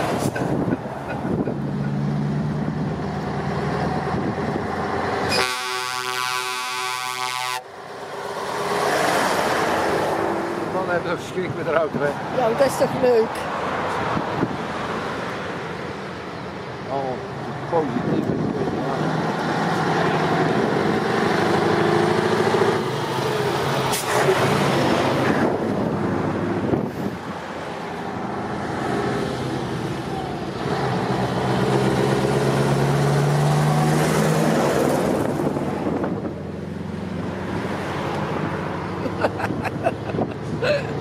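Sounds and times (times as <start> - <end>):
diesel truck engines passing: 0.0 - 41.0.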